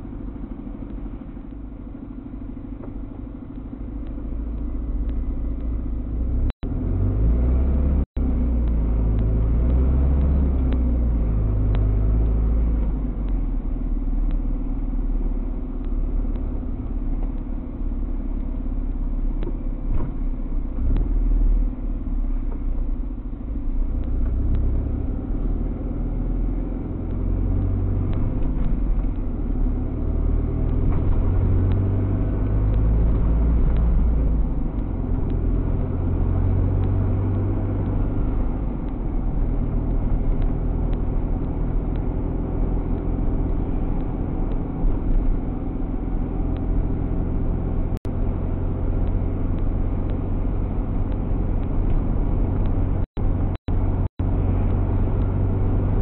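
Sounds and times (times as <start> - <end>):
engine and road rumble in cab: 0.0 - 56.0.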